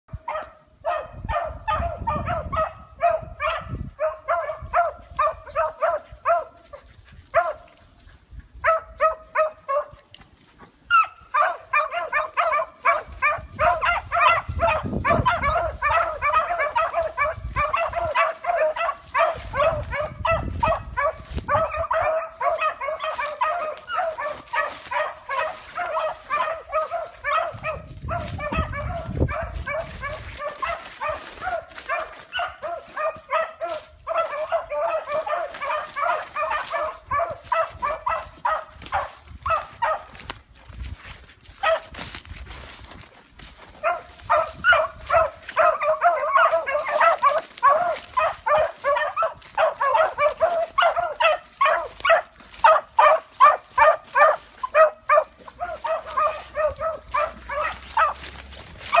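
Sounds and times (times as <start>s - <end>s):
hounds barking and baying: 0.1s - 59.0s.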